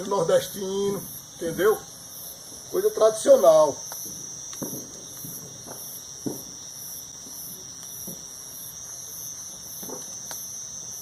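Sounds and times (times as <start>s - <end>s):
insect chirping: 0.0s - 11.0s
insects buzzing: 0.0s - 11.0s.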